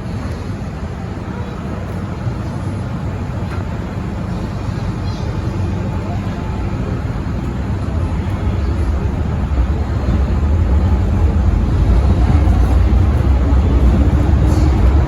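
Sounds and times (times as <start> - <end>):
electric train rumbling in tunnel: 0.0 - 15.0.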